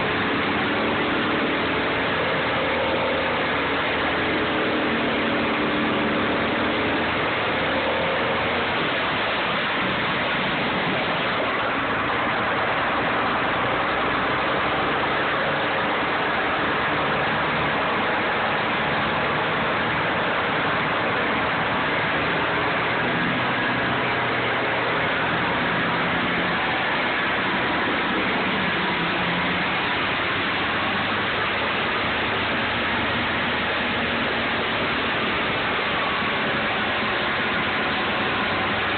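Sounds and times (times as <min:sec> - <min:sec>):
wood chipper running: 0:00.0 - 0:38.9.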